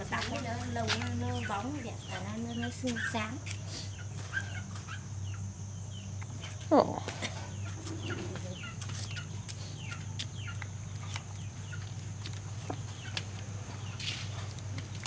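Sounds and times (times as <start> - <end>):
chicks peeping: 0.0 - 15.0
steady low hum: 0.0 - 15.0.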